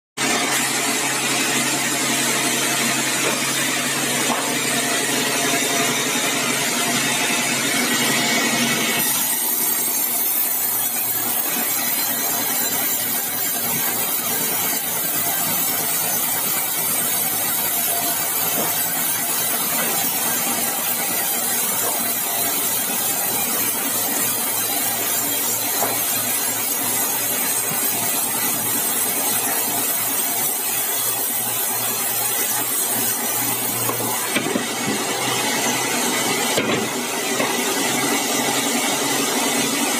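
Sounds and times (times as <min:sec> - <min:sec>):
band saw sawing log: 0:00.2 - 0:39.9.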